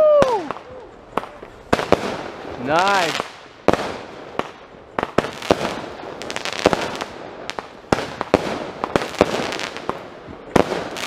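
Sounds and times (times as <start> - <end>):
continuous noisy haze: 0.0 - 11.0
firework cake firing: 0.0 - 11.0.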